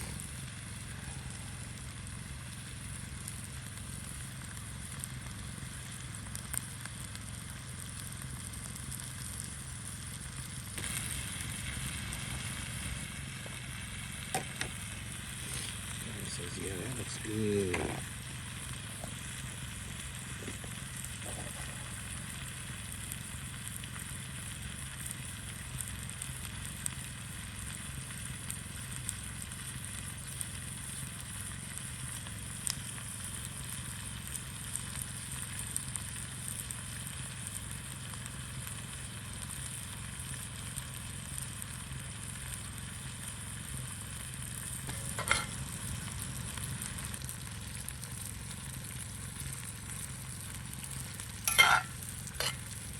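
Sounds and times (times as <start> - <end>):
peppers and onions sizzling in pan: 0.0 - 52.9.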